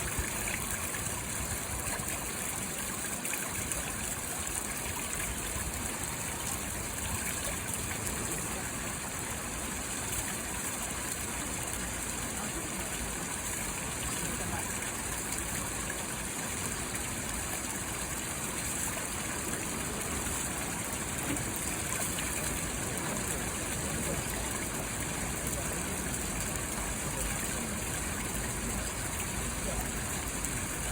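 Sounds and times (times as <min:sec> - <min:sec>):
water fountain splashing: 0:00.0 - 0:30.9.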